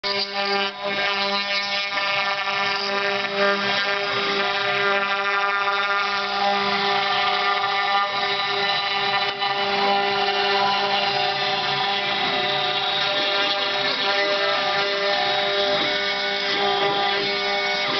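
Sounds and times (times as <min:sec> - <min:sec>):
milling machine motor whine: 0:00.0 - 0:17.9.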